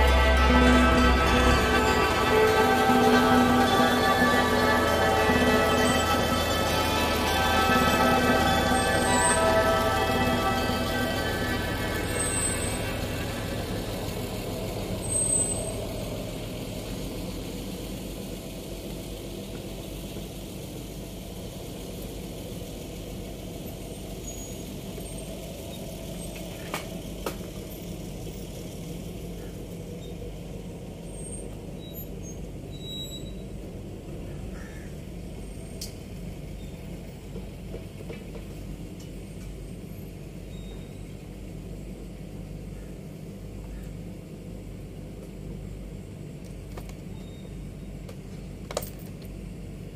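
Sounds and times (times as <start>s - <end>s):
low mechanical drone: 0.0s - 49.9s.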